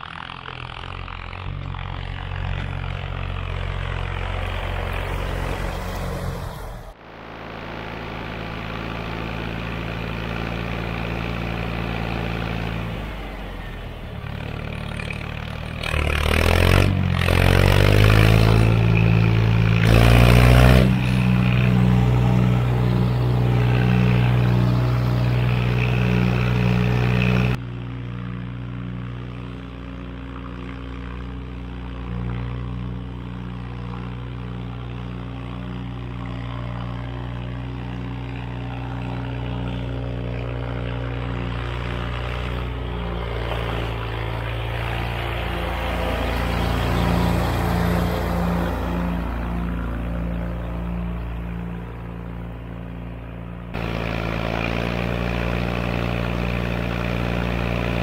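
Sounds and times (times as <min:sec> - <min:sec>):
tractor engine revving: 0:00.0 - 0:58.0.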